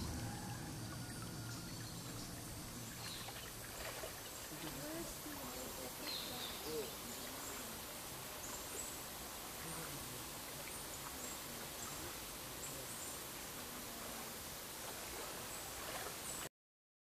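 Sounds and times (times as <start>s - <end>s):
steady hiss: 0.0s - 16.5s.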